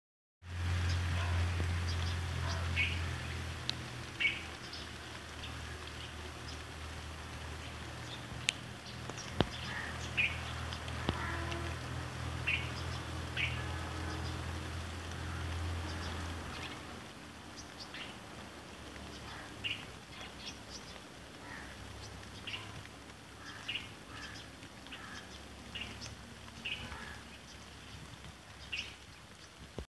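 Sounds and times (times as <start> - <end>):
small birds chirping: 0.8 - 3.5, 4.1 - 29.8.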